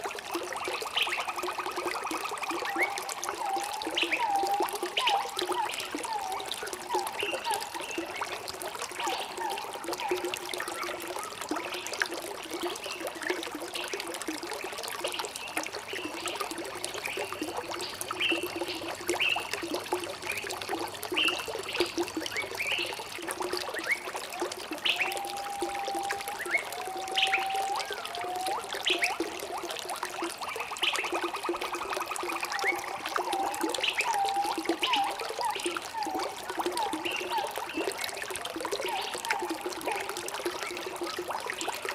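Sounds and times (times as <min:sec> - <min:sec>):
stream trickling: 0:00.0 - 0:41.9.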